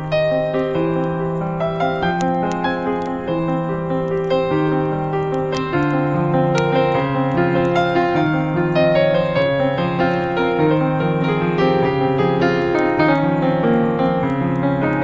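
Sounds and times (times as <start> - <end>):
crackling wood fire: 0.0 - 15.0
slow gentle piano music: 0.0 - 15.0.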